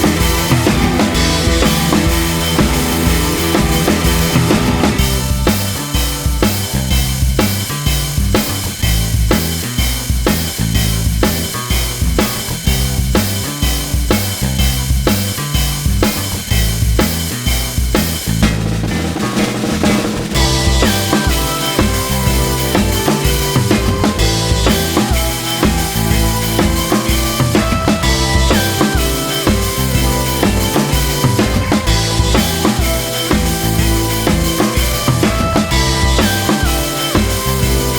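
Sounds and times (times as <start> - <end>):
music with drum beat and bass: 0.0 - 37.9.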